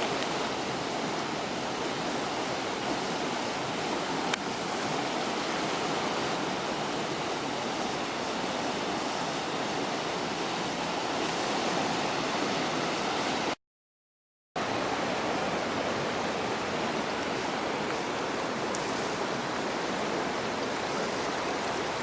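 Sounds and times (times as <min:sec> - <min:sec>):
river rushing: 0:00.0 - 0:13.6, 0:14.6 - 0:22.0.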